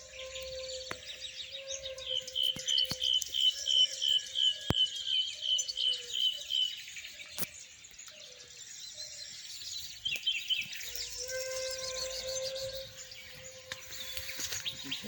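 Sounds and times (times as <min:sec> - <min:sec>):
bird chicks chirping: 0:00.0 - 0:15.0.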